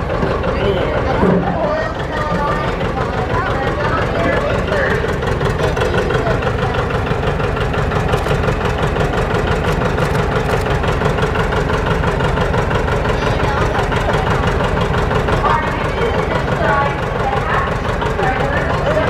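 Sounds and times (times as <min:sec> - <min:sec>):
tractor engine running slowly: 0:00.0 - 0:19.0.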